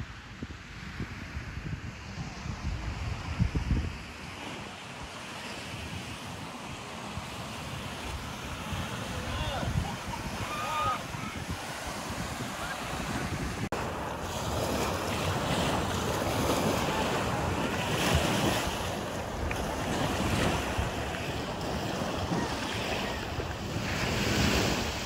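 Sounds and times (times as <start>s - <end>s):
waves washing onto shore: 0.0s - 25.0s
wind rumbling on microphone: 0.0s - 25.0s.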